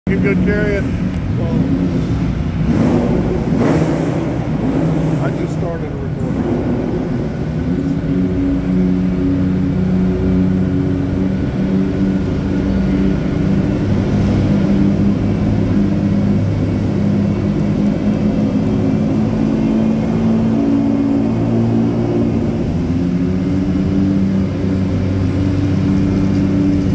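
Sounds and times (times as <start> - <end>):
race car engine at low revs: 0.1 - 26.9.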